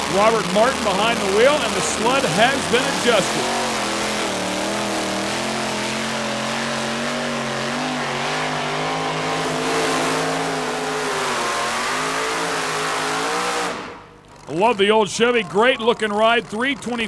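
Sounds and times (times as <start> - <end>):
truck engine revving under load: 0.0 - 15.4.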